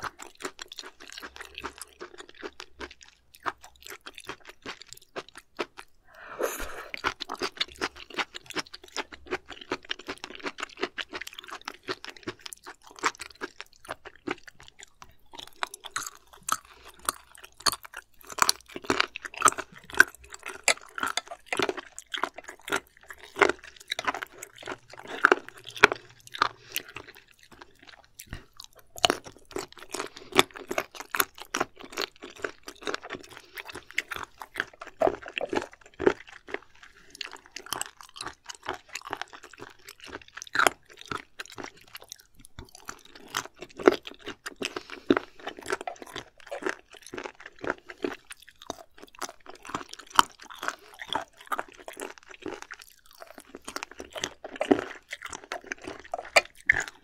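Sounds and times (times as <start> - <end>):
crunchy wet chewing: 0.0 - 57.0.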